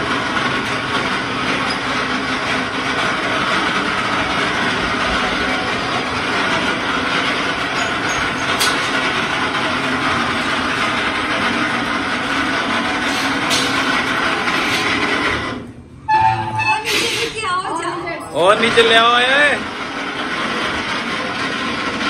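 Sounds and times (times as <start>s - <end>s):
lift motor running: 0.0s - 22.0s.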